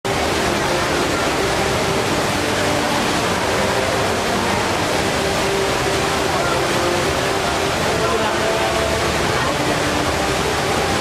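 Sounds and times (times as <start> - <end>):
waterfall pouring: 0.1 - 11.0.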